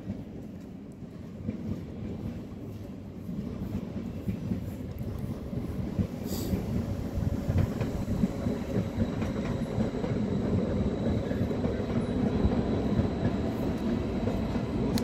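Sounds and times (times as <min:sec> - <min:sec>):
train rumbling over tracks: 0:00.0 - 0:15.0.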